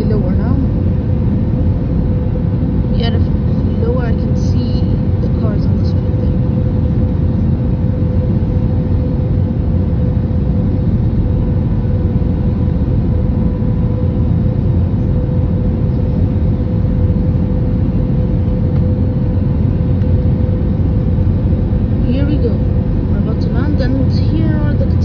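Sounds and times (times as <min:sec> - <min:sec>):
constant hum: 0:00.0 - 0:25.0
jet engines and airflow roar: 0:00.0 - 0:25.0.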